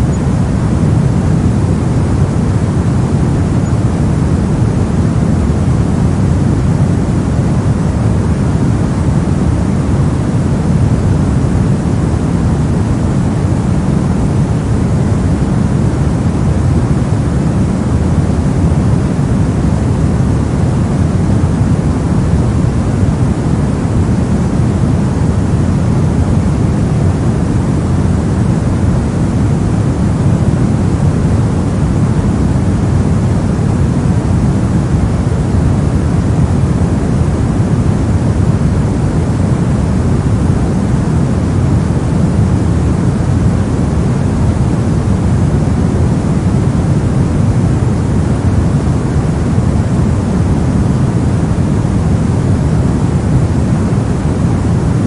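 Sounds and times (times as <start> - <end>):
deep rumbling noise hiss: 0.0 - 55.0.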